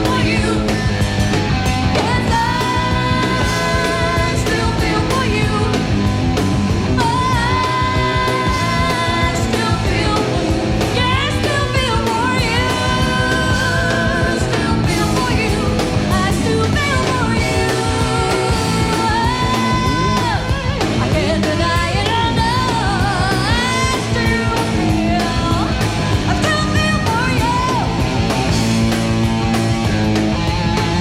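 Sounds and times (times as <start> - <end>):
female lead vocals: 0.0 - 1.3, 1.9 - 6.1, 6.8 - 28.1
drums: 0.0 - 31.0
electric bass: 0.0 - 31.0
live rock band playing: 0.0 - 31.0.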